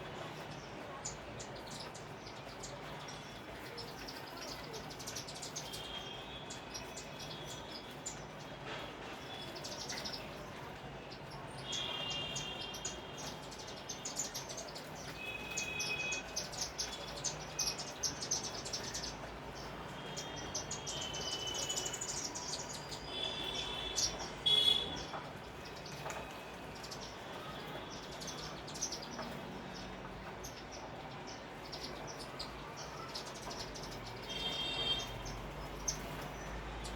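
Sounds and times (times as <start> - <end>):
sparrows chirping: 0.0 - 36.9.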